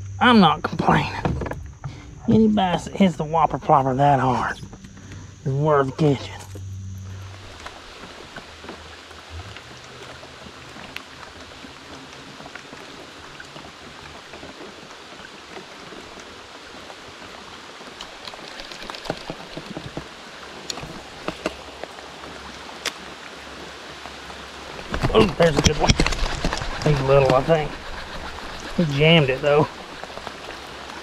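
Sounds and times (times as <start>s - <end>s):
rain hissing on a lake: 0.0s - 31.0s.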